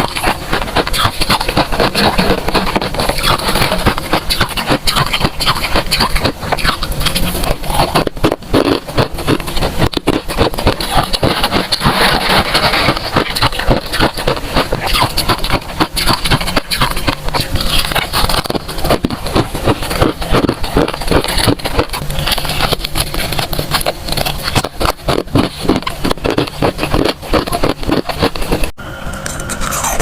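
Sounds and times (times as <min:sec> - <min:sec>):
frost crunching: 0:00.0 - 0:28.7.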